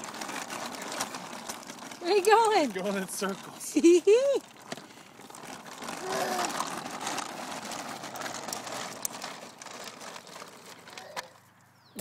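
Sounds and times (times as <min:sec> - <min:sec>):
plastic wheels rolling on asphalt: 0:00.0 - 0:12.0.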